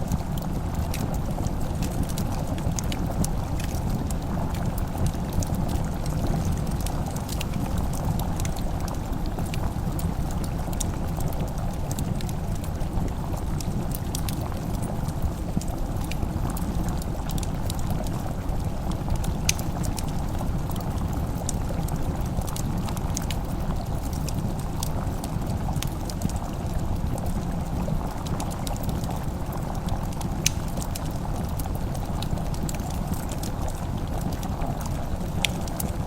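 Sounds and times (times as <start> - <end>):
fireplace crackling: 0.0 - 36.0.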